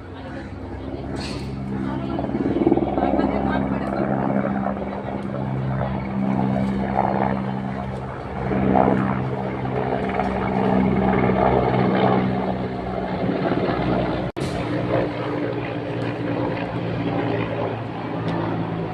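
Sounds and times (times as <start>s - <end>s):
aeroplane engine overhead: 0.0s - 18.9s.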